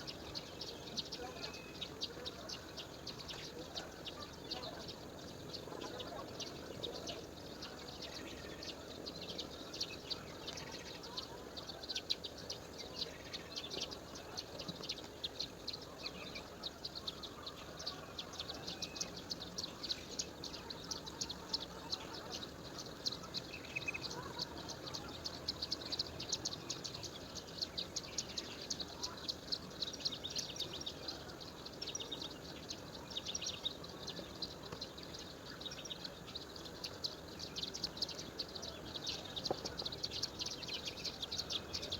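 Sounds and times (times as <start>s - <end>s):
faint background hiss: 0.0s - 41.9s.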